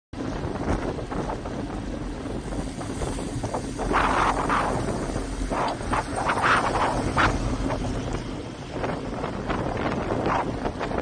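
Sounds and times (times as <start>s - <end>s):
low road rumble: 0.2s - 11.0s
wind rushing over microphone: 0.2s - 11.0s.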